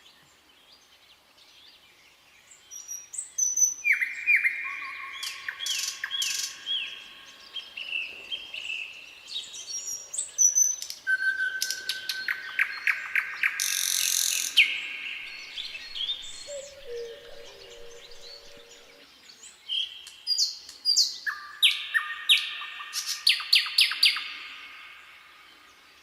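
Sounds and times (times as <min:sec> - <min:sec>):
nightingale singing: 0:02.5 - 0:25.6.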